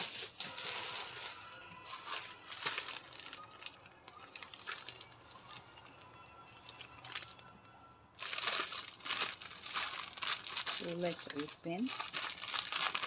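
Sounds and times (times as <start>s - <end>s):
plastic pouch crinkling: 0.0s - 7.5s, 8.2s - 13.0s.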